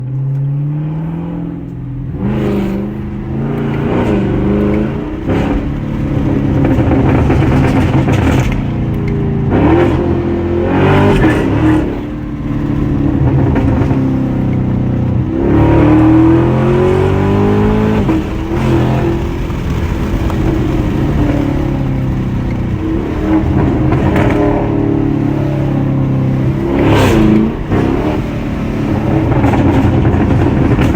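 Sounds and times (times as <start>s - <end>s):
car engine revving: 0.0s - 30.9s
exhaust crackles and pops: 0.0s - 30.9s.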